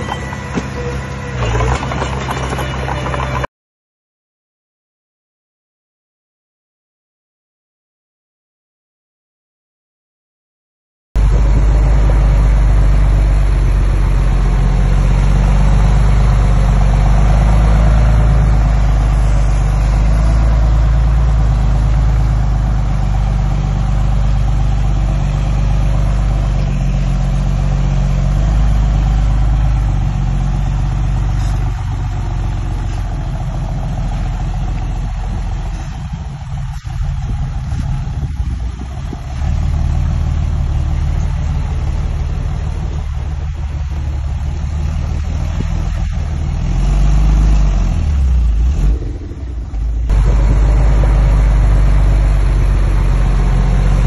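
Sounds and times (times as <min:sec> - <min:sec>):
diesel engine rumbling: 0:00.0 - 0:03.5, 0:11.2 - 0:54.0.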